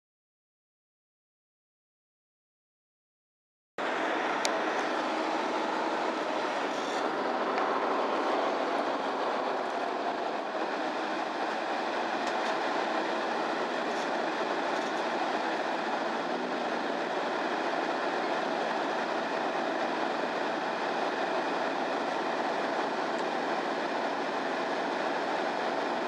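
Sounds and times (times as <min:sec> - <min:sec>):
bus engine and running noise: 0:03.8 - 0:26.0.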